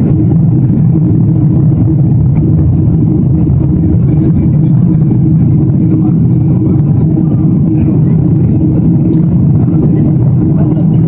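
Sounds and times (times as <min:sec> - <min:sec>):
jet cabin engine drone: 0:00.0 - 0:11.0.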